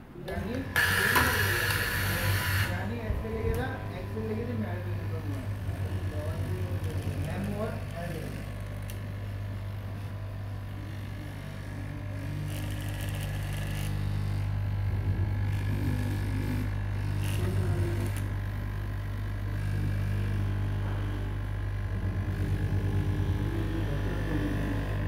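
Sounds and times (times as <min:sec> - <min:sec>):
cloth-cutting machine motor humming: 0:00.0 - 0:25.0.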